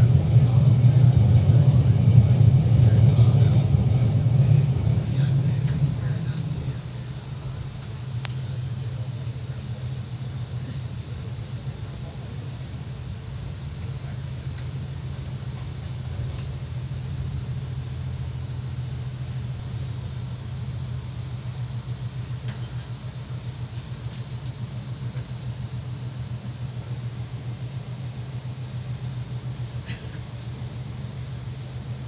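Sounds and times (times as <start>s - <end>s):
train rumbling inside carriage: 0.0s - 32.0s.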